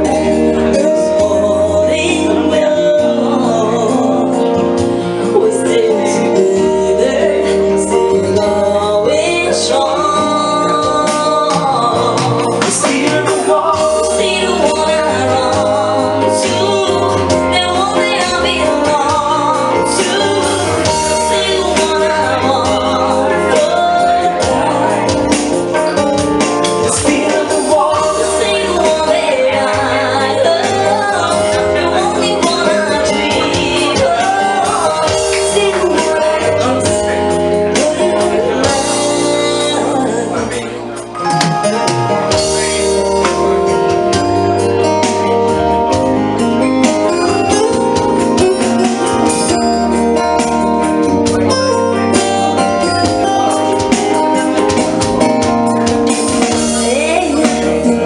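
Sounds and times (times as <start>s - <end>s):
keyboards: 0.0s - 58.0s
woman singing lead: 0.0s - 58.0s
drums with cymbals: 10.8s - 58.0s.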